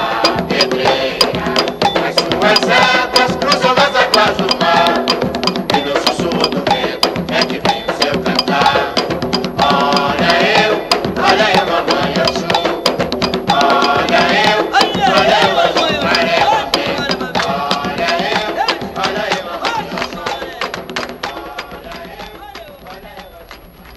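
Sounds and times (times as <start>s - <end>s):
voices singing: 0.0s - 23.8s
hand percussion and drums: 0.0s - 23.9s
rapid wood-block clicks: 0.1s - 23.9s.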